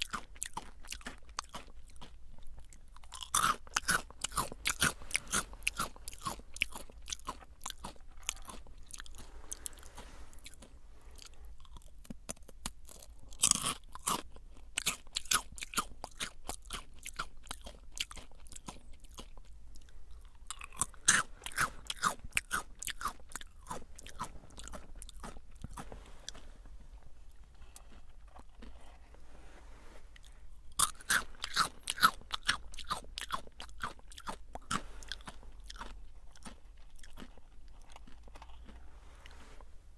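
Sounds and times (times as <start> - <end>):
crunching bites of snack sticks: 0.0 - 29.2, 30.2 - 39.4
soft chewing: 0.0 - 39.8.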